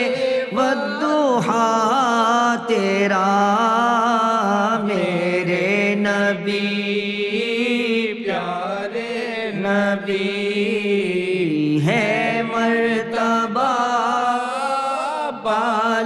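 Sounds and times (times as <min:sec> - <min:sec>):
man singing devotional hymn: 0:00.0 - 0:16.0.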